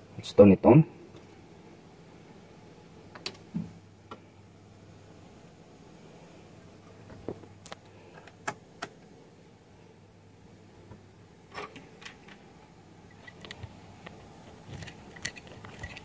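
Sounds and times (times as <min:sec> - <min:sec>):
electronics hum: 0:00.0 - 0:16.0
high-pitched whine: 0:02.9 - 0:16.0.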